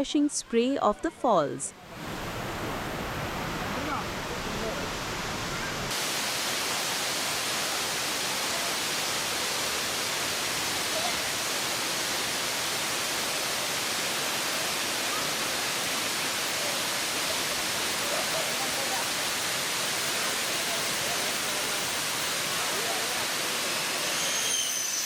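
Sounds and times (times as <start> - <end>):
waterfall rushing: 1.9 - 25.0.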